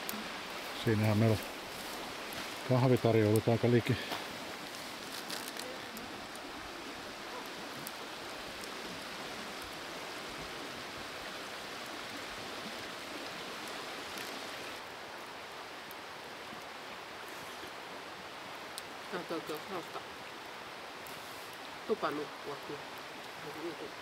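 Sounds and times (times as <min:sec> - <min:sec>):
flowing river water: 0:00.0 - 0:24.0.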